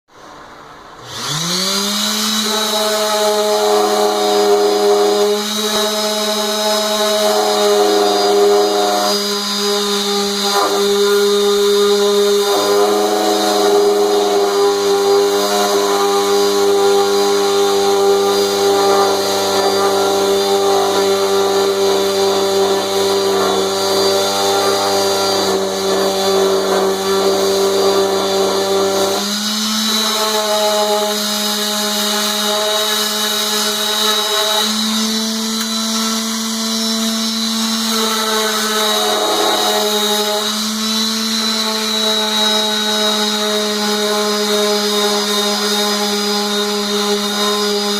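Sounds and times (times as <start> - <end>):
lathe motor humming whine: 0.3 - 47.9.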